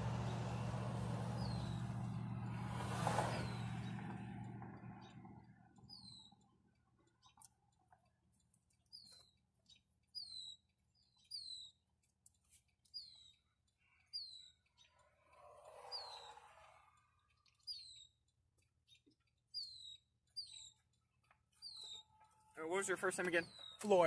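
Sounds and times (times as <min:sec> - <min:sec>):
bird chirping faintly: 0:03.2 - 0:24.0.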